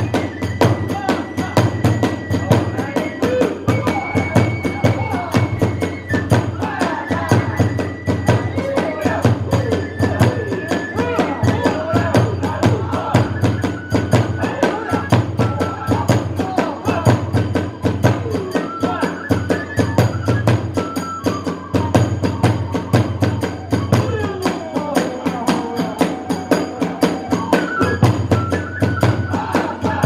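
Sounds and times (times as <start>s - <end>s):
bamboo flute melody: 0.0s - 30.0s
rapid drum beats: 0.0s - 30.0s.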